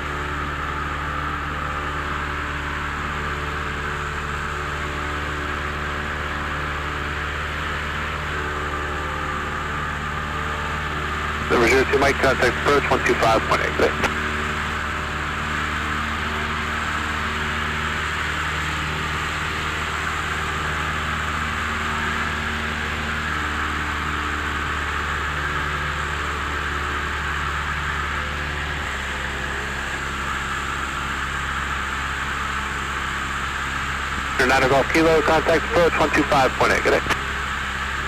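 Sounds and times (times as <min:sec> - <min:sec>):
propeller plane engine drone: 0:00.0 - 0:38.0.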